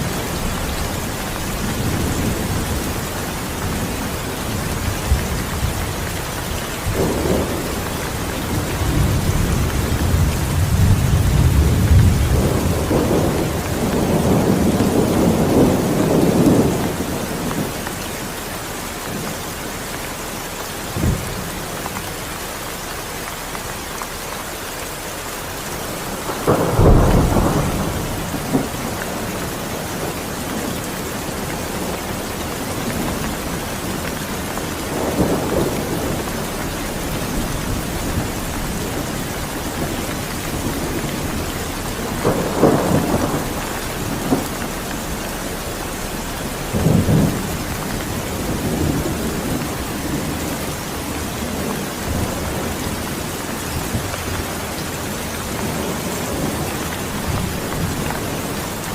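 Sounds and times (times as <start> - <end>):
thunder rolling: 0.0 - 17.8, 25.8 - 58.9
steady rain: 0.0 - 58.9.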